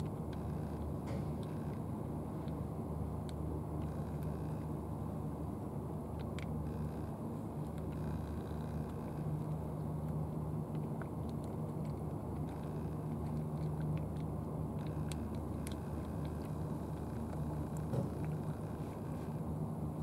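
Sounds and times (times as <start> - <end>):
cat chewing clicks: 0.0 - 4.5, 6.1 - 19.0.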